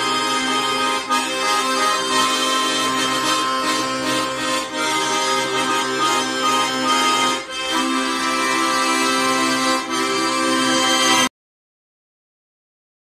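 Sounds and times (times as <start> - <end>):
button accordion chords: 0.0 - 11.3.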